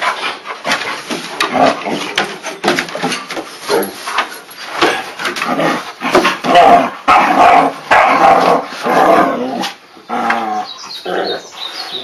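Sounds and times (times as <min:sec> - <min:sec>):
puppies barking and growling: 0:00.0 - 0:12.0.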